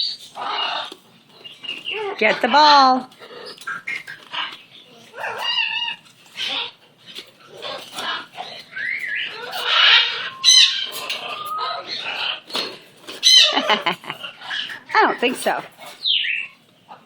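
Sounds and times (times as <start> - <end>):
pet animal calling: 0.0 - 17.0.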